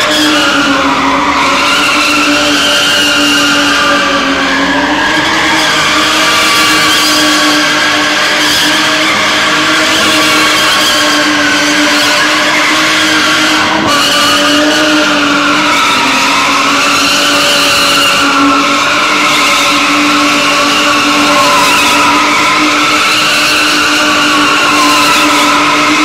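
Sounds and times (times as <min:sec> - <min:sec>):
car engine at high revs: 0:00.0 - 0:26.0
tyres squealing: 0:01.0 - 0:26.0.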